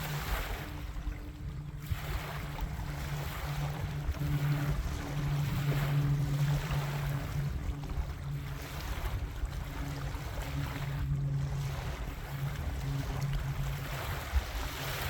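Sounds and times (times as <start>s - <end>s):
distant engine droning: 0.0s - 15.0s
wind on microphone: 0.0s - 15.0s.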